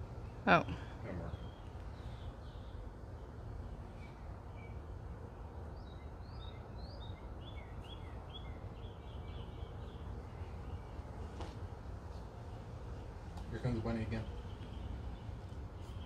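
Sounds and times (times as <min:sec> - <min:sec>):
low outdoor rumble: 0:00.0 - 0:16.0
songbird chirping: 0:00.1 - 0:16.0.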